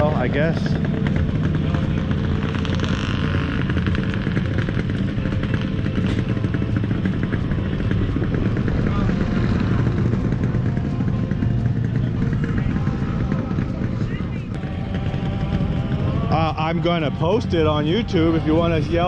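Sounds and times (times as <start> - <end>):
background voices: 0.0 - 19.0
engine running steadily: 0.0 - 19.0.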